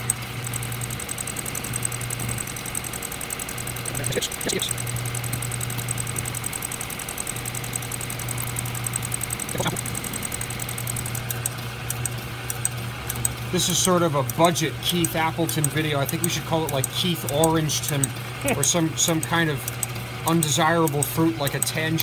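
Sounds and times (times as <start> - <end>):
lathe motor hum with whine: 0.0 - 22.0.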